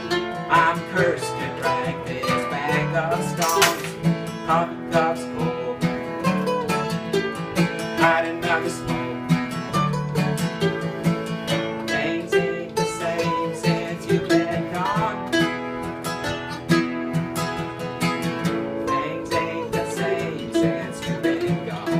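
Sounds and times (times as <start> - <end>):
acoustic guitar picking: 0.0 - 21.9.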